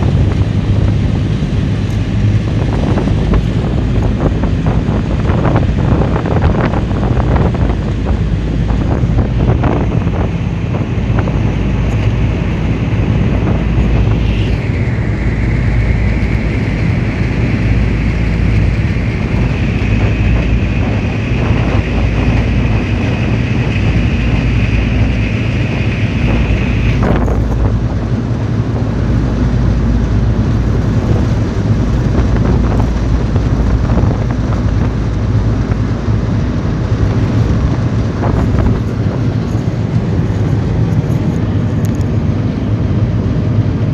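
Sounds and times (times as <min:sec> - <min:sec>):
ferry engine humming: 0:00.0 - 0:43.9
high whine: 0:00.0 - 0:43.9
wind buffeting microphone: 0:00.0 - 0:43.9.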